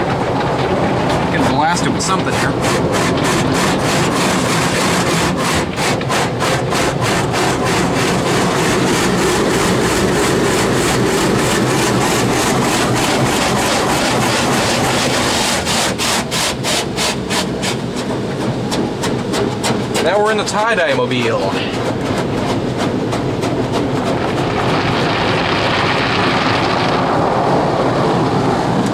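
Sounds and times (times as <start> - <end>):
rapid even slapping: 0.0 - 27.5
car wash spray and brushes: 0.0 - 28.9.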